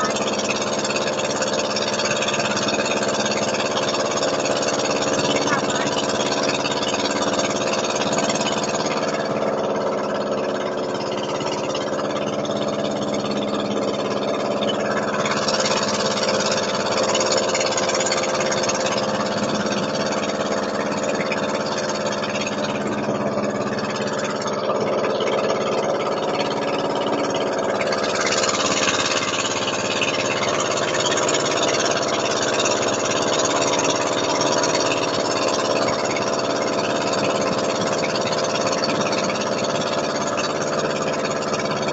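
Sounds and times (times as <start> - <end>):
motorboat engine droning: 0.0 - 41.9.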